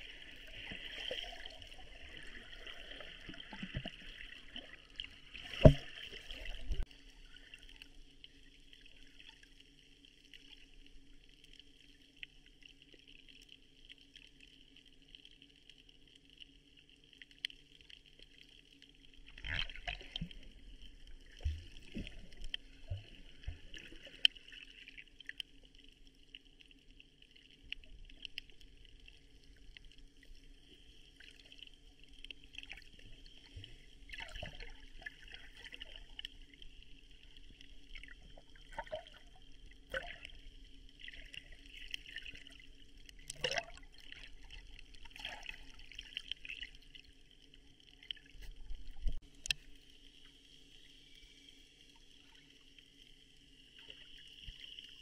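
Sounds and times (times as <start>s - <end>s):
water splashing and trickling: 0.0s - 49.9s.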